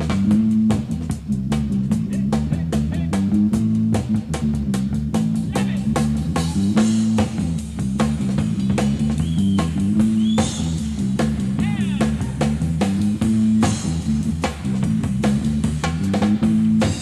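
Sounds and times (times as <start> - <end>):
repeating bass line: 0.0 - 17.0
rock band playing: 0.0 - 17.0
steady drumming: 0.0 - 17.0.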